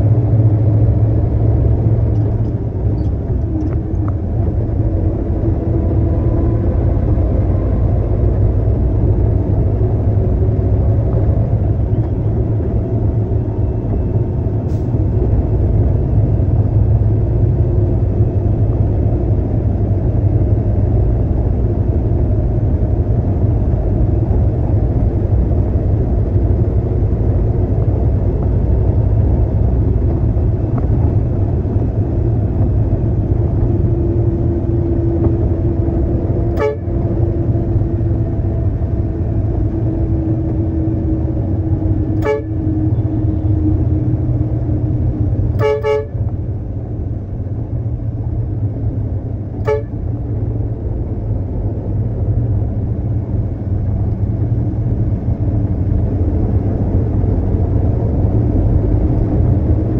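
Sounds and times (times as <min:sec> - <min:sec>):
concrete mixer truck rumbling: 0:00.0 - 0:59.9.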